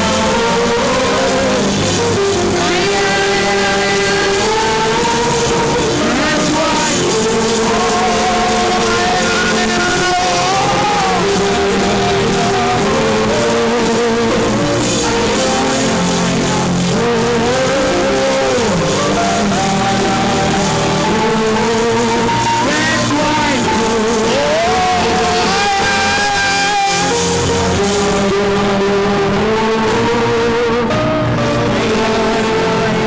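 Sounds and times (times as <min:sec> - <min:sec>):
live band worship music: 0:00.0 - 0:33.0
wavering sung melody: 0:00.0 - 0:33.0.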